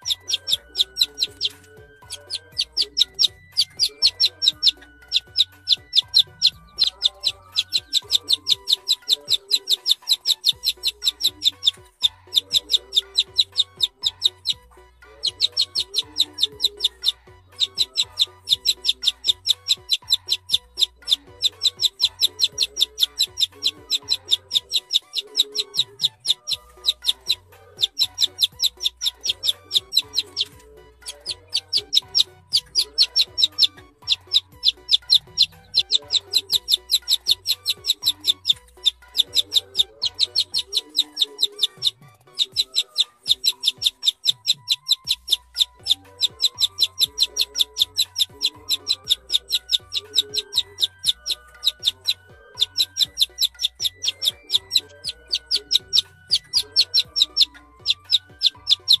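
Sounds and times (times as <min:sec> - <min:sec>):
chick peeping: 0:00.0 - 0:59.0.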